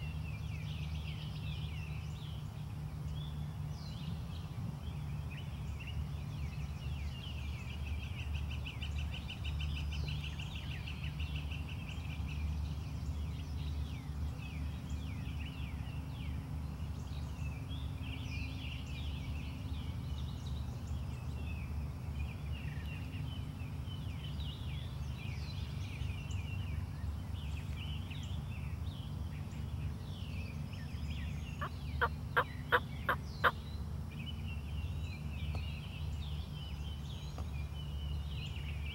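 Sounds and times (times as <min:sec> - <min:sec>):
low rumble of wind: 0:00.0 - 0:38.9
songbirds chirping: 0:00.0 - 0:38.9.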